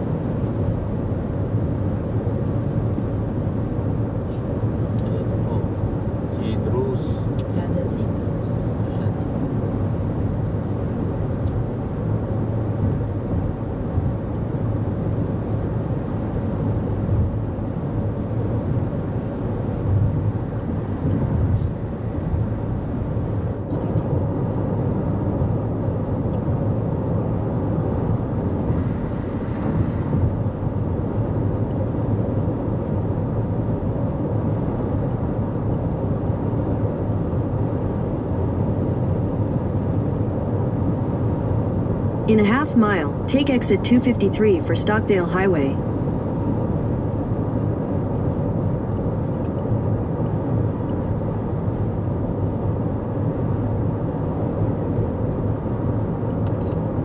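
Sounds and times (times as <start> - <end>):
car road noise at highway speed: 0.0 - 57.0.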